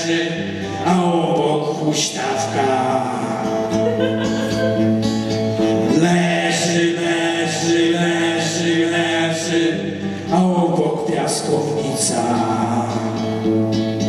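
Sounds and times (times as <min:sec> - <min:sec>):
men singing long held notes: 0:00.0 - 0:04.7, 0:05.6 - 0:13.3
acoustic guitar strumming: 0:00.0 - 0:14.0.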